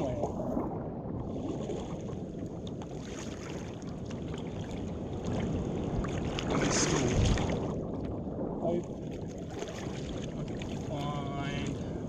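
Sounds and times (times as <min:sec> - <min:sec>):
water splashing around a kayak: 0:00.0 - 0:12.0
wind on microphone: 0:00.0 - 0:12.0.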